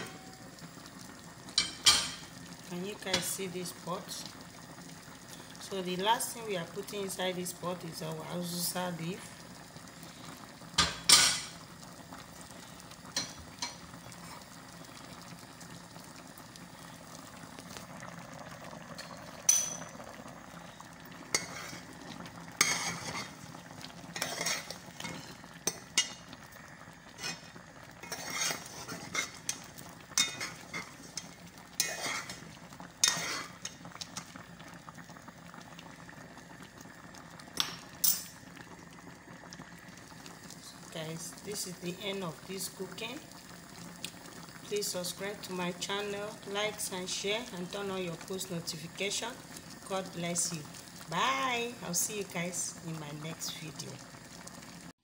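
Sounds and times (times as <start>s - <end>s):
soup bubbling: 0.0s - 55.0s.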